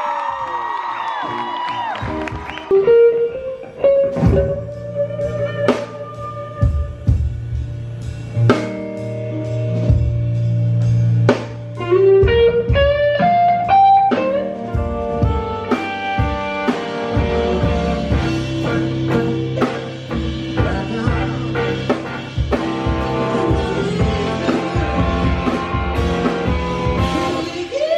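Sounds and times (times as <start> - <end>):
electric guitar lead line: 1.2 - 27.9
slow drum beat: 4.1 - 27.9.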